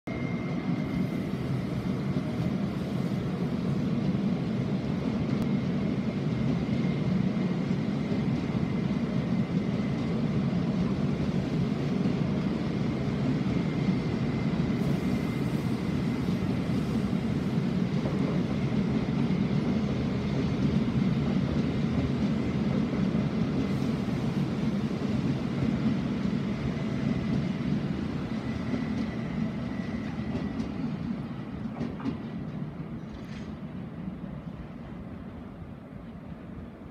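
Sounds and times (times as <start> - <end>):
train wheels rumbling on track: 0.1 - 36.9.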